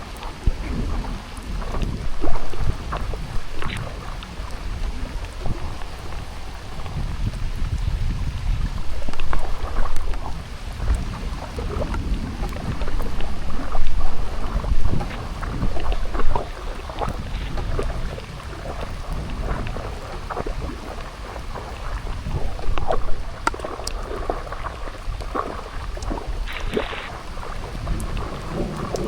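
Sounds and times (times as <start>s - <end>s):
rain patter: 0.0s - 29.0s
wind buffeting microphone: 0.0s - 29.0s.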